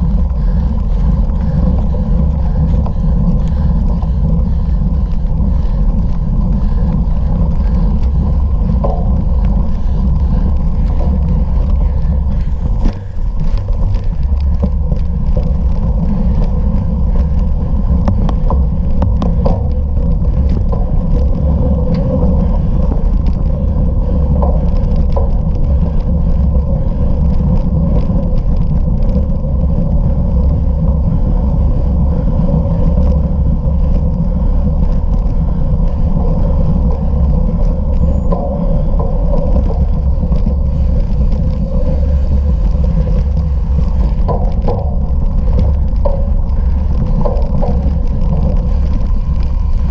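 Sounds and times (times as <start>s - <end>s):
bicycle clicks and rattles: 0.0s - 49.9s
bicycle tyres rumbling: 0.0s - 49.9s
wind on microphone: 0.0s - 49.9s.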